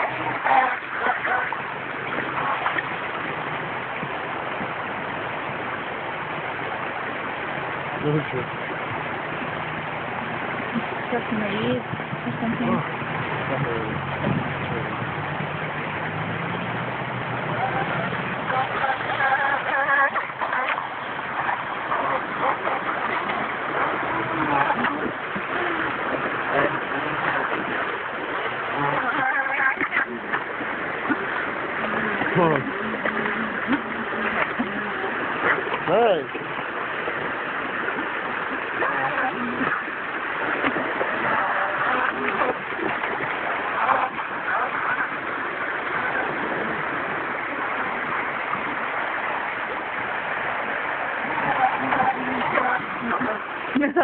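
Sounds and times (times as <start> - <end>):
fast-flowing water rushing: 0.0 - 54.0.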